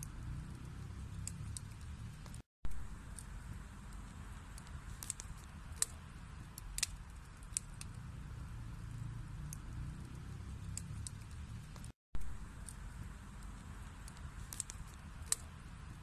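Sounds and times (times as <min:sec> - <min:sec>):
flame rumbling: 0:00.0 - 0:16.0
wood crackling and popping: 0:00.0 - 0:16.0.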